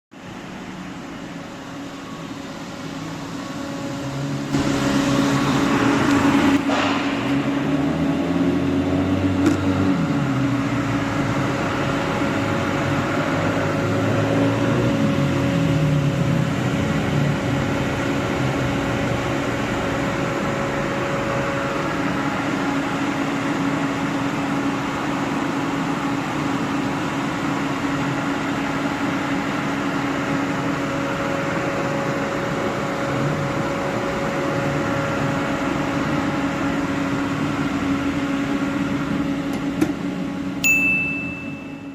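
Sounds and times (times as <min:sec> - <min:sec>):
car engine humming and whining: 0:00.2 - 0:41.9.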